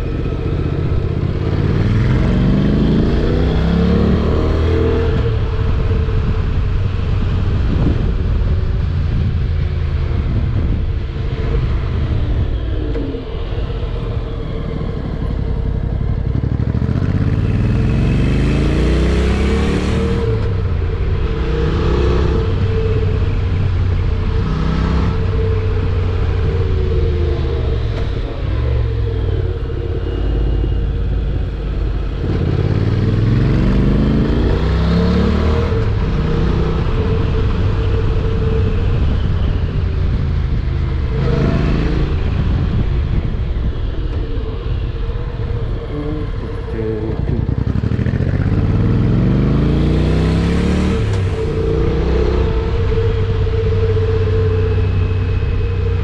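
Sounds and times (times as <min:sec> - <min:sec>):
motorcycle engine accelerating: 0:00.0 - 0:56.0
road and wind noise: 0:00.0 - 0:56.0.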